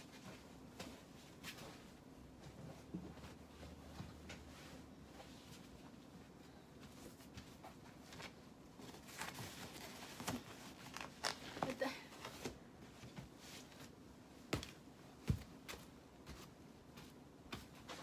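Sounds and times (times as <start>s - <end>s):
bedding rustling: 0.0s - 18.0s.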